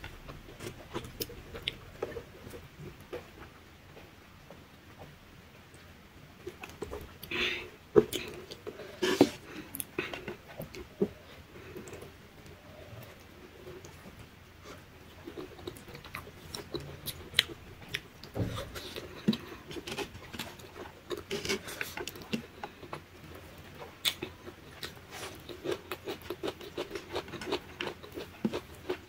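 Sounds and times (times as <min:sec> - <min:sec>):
person chewing with mouth clicks: 0:00.0 - 0:03.6, 0:06.4 - 0:29.0.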